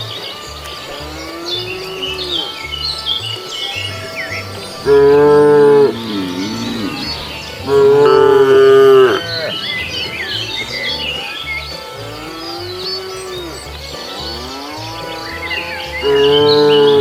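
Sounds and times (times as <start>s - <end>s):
cow mooing: 0.9s - 3.2s, 3.8s - 17.0s.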